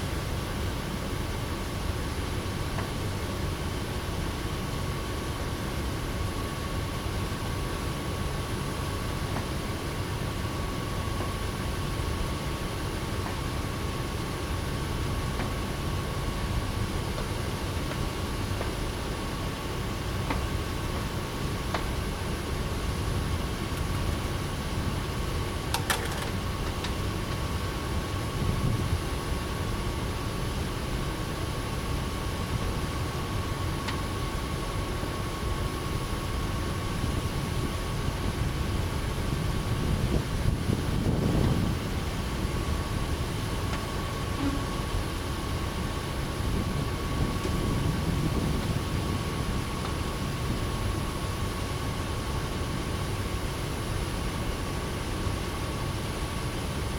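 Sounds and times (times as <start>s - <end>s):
low outdoor rumble: 0.0s - 56.6s.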